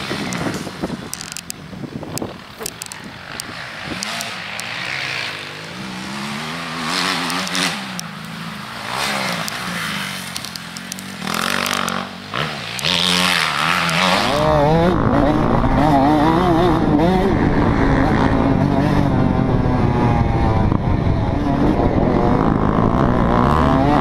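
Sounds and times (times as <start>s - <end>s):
motocross bike engine revving: 2.1s - 24.0s.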